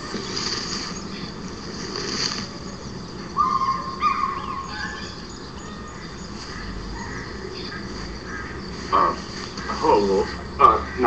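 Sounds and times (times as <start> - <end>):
birds calling: 0.0 - 11.0
steady outdoor hiss: 0.0 - 11.0.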